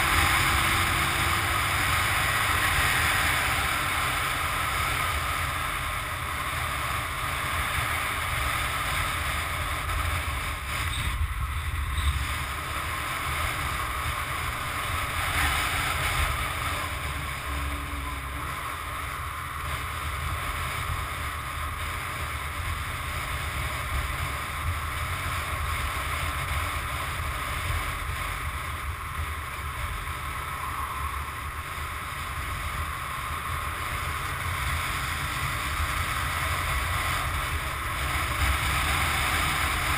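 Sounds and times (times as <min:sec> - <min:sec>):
motorcycle engine rumble: 0:00.0 - 0:39.9
wind rushing over microphone: 0:00.0 - 0:39.9.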